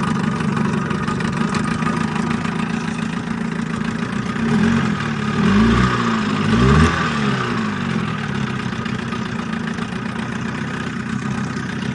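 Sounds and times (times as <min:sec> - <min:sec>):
outboard motor revving and idling: 0:00.0 - 0:11.9.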